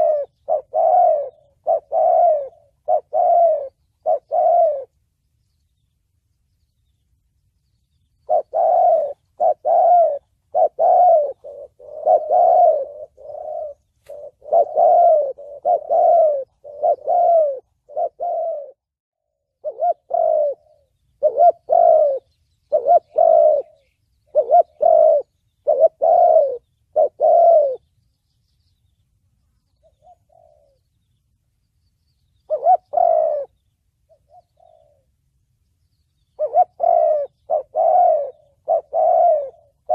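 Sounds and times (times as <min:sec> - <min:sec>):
dove cooing: 0:00.0 - 0:05.0, 0:08.2 - 0:27.9, 0:29.7 - 0:31.1, 0:32.4 - 0:35.3, 0:36.2 - 0:39.9.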